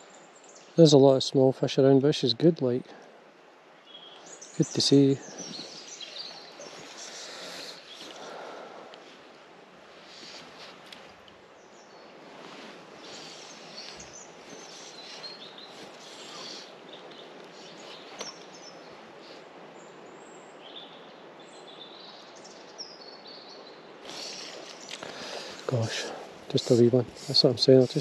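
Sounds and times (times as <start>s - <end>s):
rushing river water: 0.0s - 28.0s
small birds chirping: 3.8s - 9.2s, 10.0s - 28.0s.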